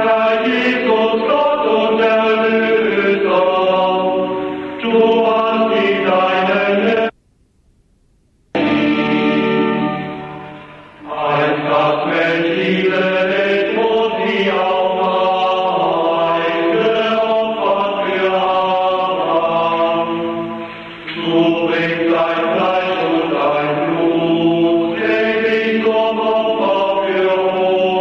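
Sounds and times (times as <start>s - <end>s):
men singing a slow chant: 0.0s - 7.1s, 11.1s - 28.0s.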